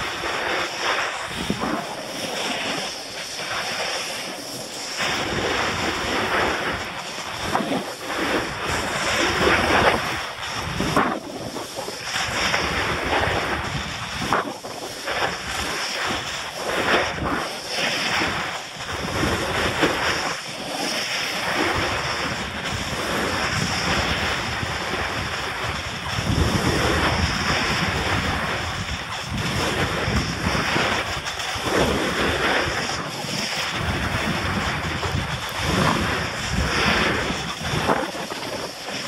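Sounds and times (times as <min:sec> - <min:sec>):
skis sliding through snow: 0:00.0 - 0:39.0
wind buffeting microphone: 0:00.0 - 0:39.0.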